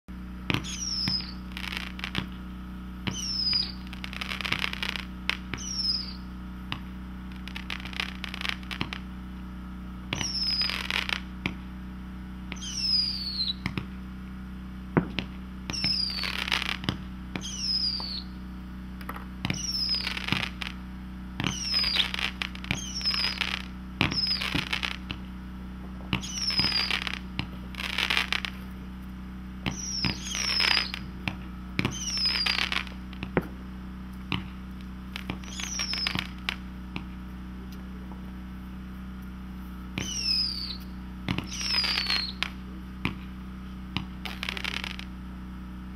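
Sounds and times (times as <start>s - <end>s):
firework whistling and crackling: 0.2s - 45.9s.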